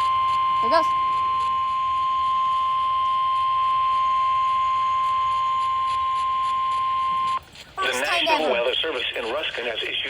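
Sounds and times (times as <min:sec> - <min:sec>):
steady alarm tone: 0:00.0 - 0:08.5.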